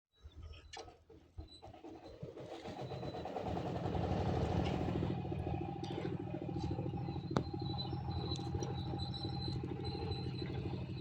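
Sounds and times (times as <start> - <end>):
engine running: 0.8 - 11.0.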